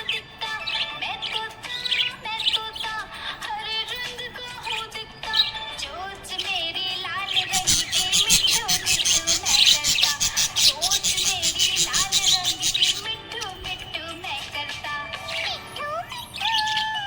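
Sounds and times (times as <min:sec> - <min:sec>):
budgerigars chirping: 0:00.0 - 0:03.4, 0:04.7 - 0:13.9, 0:14.7 - 0:17.0
background music gliding melody: 0:00.0 - 0:17.0.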